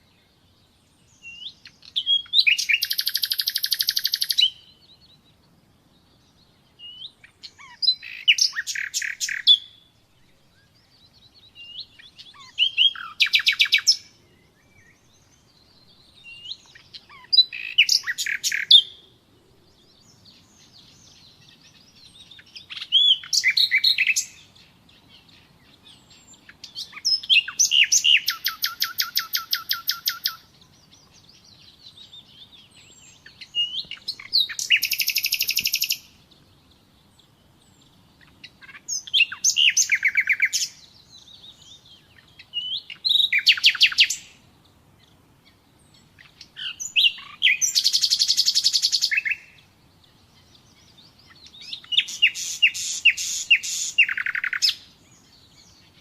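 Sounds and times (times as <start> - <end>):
nightingale trilling song: 0.0 - 56.0.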